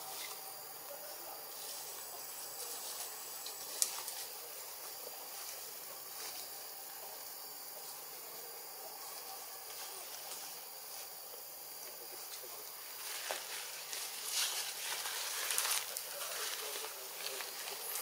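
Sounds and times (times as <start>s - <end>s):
constant hiss: 0.0s - 18.0s
forest insects droning: 0.0s - 18.0s.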